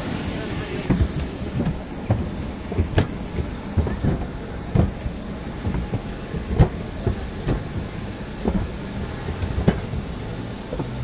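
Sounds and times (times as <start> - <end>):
jet aircraft whine and rumble: 0.0 - 11.0
footsteps on metal stairs: 0.8 - 11.0.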